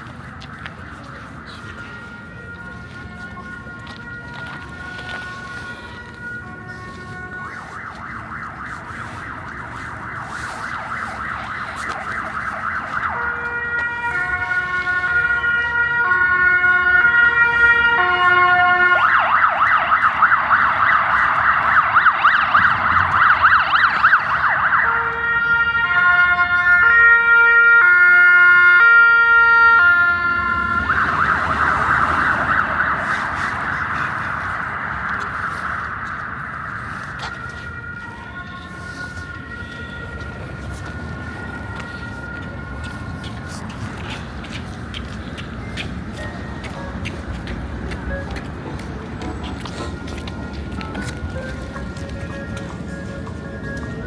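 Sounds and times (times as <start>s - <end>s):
emergency vehicle siren: 0.0s - 54.0s.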